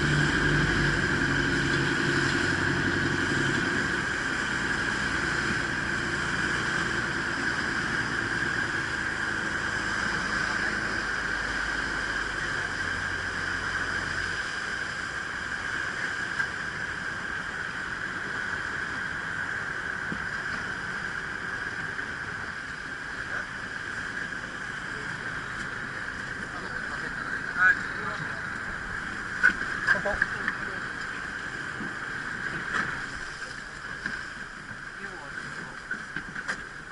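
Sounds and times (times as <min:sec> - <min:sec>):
boat engine humming: 0:00.0 - 0:36.9
sea water noise: 0:00.0 - 0:36.9
wind: 0:00.0 - 0:36.9.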